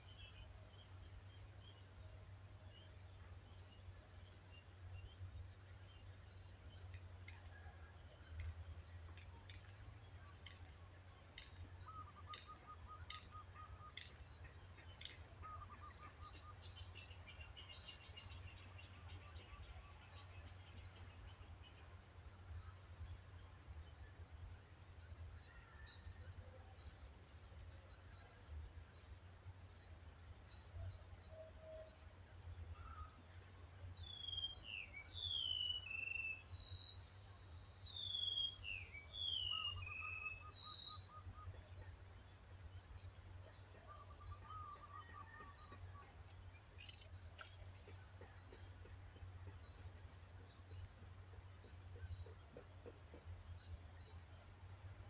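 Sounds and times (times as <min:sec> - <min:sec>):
faint low hum: 0:00.0 - 0:55.0
wild birds chirping: 0:00.0 - 0:55.0.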